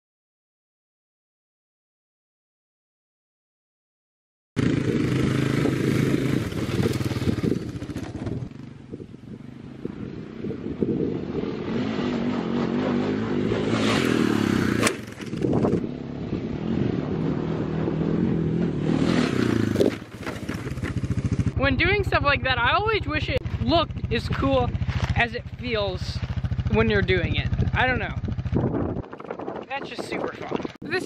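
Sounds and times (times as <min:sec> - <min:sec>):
quad bike engine revving: 0:04.6 - 0:09.0, 0:09.6 - 0:31.0.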